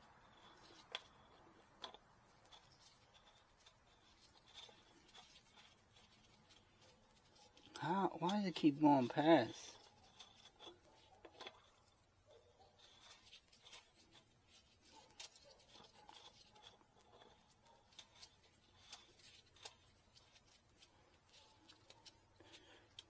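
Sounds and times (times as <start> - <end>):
faint handling clicks and rustles: 0.0 - 23.0.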